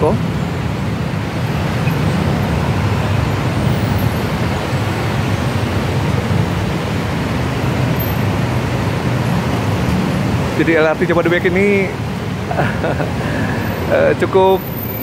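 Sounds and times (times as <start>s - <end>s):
heavy road traffic rumble: 0.0s - 15.0s.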